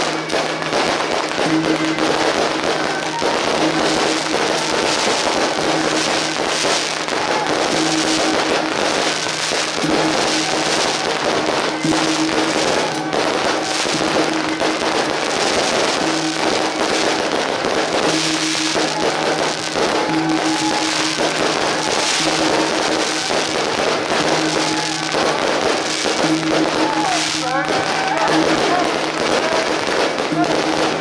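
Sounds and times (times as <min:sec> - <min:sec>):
festive music: 0:00.0 - 0:31.0
firecrackers crackling: 0:00.0 - 0:31.0.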